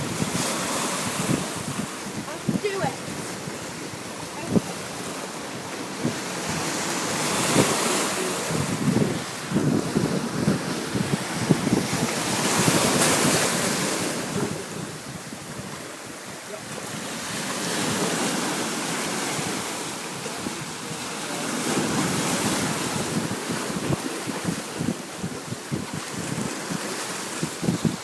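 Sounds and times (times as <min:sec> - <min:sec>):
sea waves washing onto beach: 0:00.0 - 0:28.0
wind buffeting microphone: 0:00.0 - 0:28.0.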